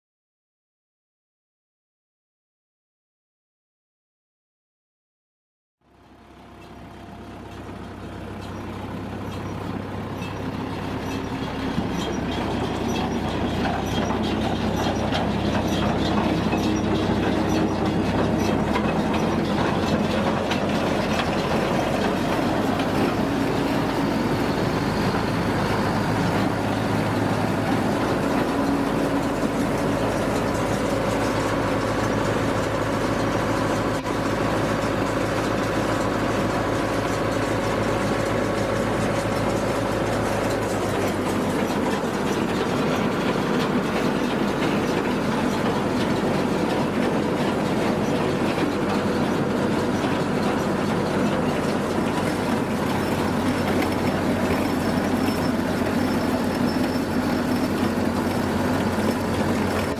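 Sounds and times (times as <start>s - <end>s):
tractor engine running: 5.8s - 59.9s.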